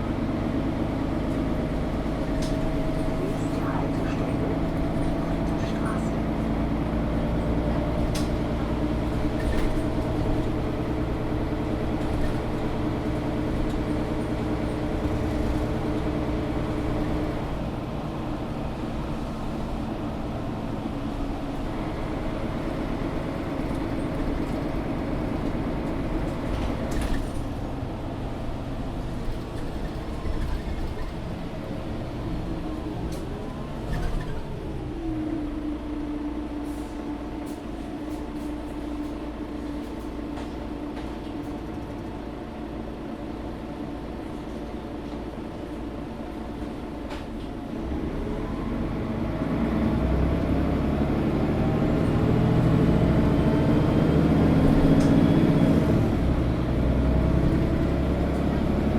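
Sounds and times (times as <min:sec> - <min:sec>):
bus diesel engine running: 0:00.0 - 0:58.9
road rumble: 0:00.0 - 0:58.9.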